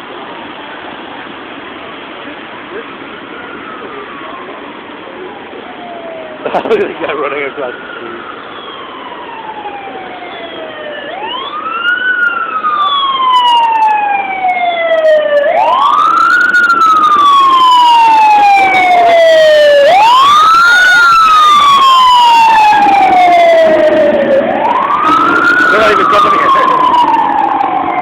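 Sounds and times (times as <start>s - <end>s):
emergency vehicle siren wailing: 0.0s - 28.0s.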